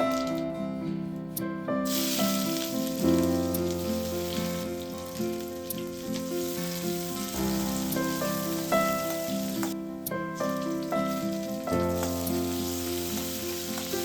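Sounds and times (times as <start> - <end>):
soft instrumental music: 0.0 - 14.0
food sizzling in a pan: 1.8 - 14.0.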